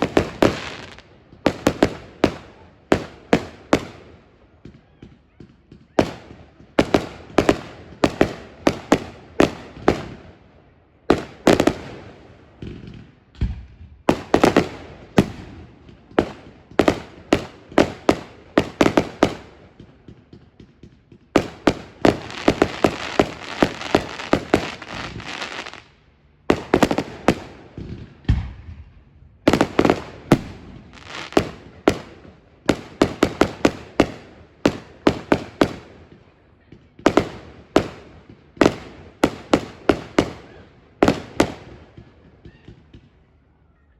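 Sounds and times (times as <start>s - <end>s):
fireworks crackling: 0.0s - 43.0s
fireworks bangs: 0.0s - 43.2s.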